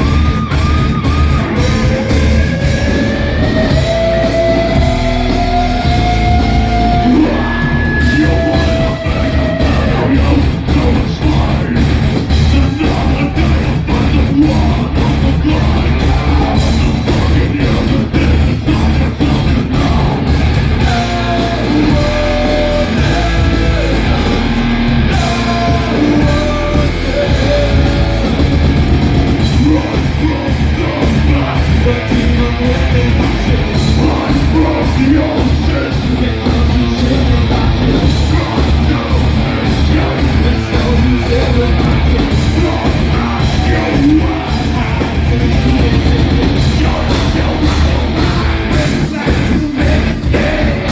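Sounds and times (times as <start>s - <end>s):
heavy metal band playing: 0.0s - 50.9s.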